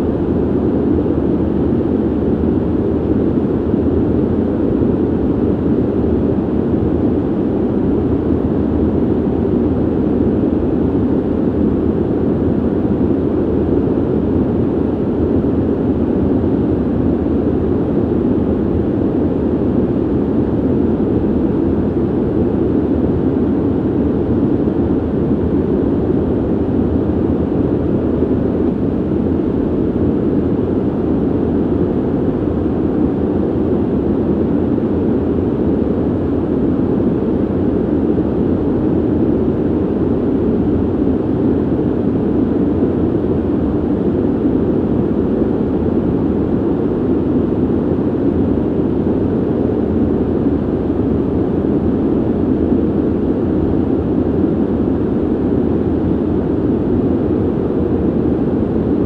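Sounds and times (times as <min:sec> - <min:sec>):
ventilation air rush: 0:00.0 - 0:59.0.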